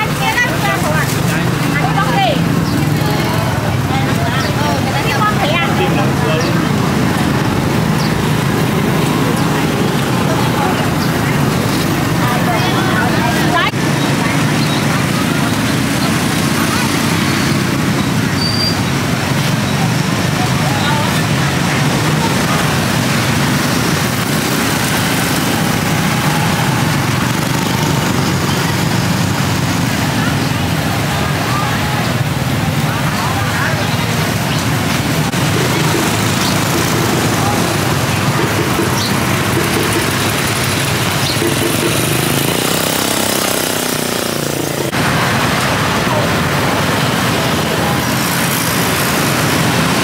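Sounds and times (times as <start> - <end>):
roadside market background noise: 0.0 - 50.0
vehicle engine running: 0.0 - 50.0.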